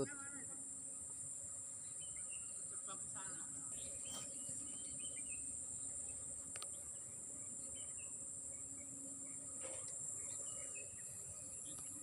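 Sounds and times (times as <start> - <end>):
insects droning: 0.0 - 12.0
faint chirps: 1.8 - 12.0.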